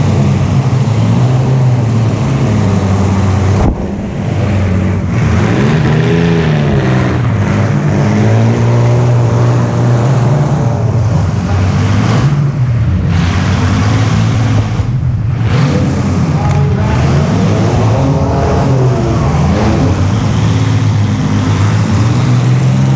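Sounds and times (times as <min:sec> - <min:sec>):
vehicle engine revving: 0:00.0 - 0:22.9
loud rushing noise: 0:01.8 - 0:10.0, 0:10.6 - 0:22.4.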